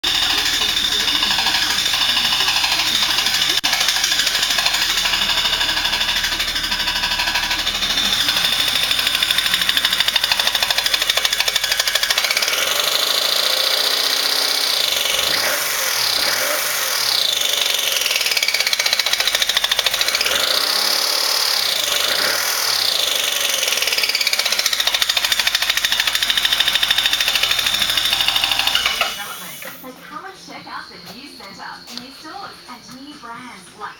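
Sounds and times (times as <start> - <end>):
car engine revving: 0.0 - 29.8
high-pitched screech: 0.0 - 29.9.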